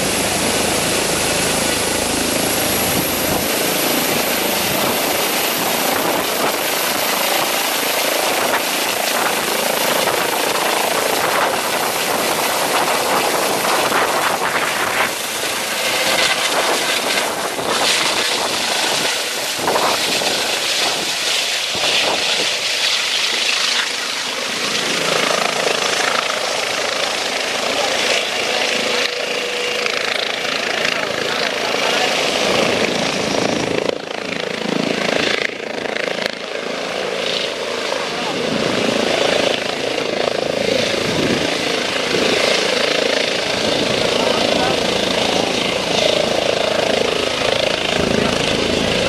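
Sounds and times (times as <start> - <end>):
helicopter turbine whine and rotor noise: 0.0 - 49.0.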